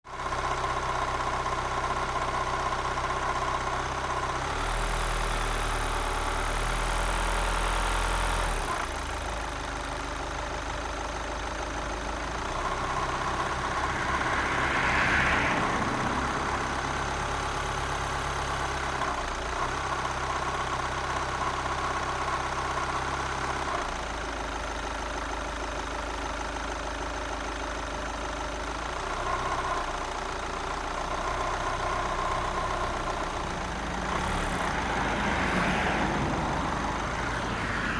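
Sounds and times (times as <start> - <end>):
diesel engine idling: 0.1 - 37.9.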